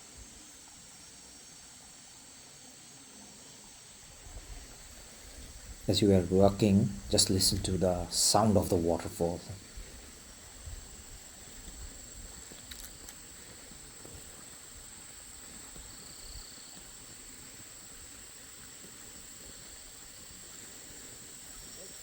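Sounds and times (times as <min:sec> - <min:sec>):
faint waterfall rushing: 0:02.0 - 0:22.0.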